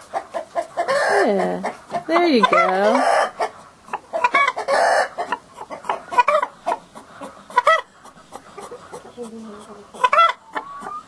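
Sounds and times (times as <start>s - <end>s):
chickens clucking: 0.0s - 11.0s
chicken squawk: 0.1s - 1.4s, 2.4s - 11.0s.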